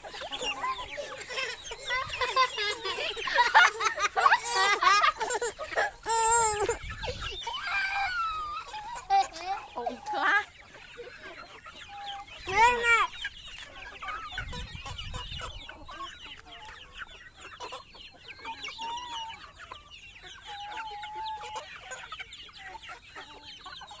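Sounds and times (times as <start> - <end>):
chicken squawk: 0.0 - 24.0
chickens clucking: 0.0 - 24.0.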